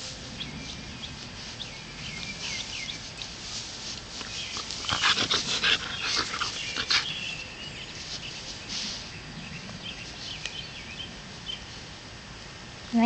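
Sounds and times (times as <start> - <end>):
dog rustling in grass: 0.0 - 12.1.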